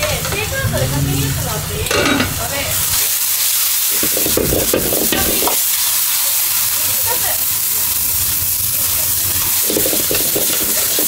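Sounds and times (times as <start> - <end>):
food sizzling in hot oil: 0.6 - 11.0.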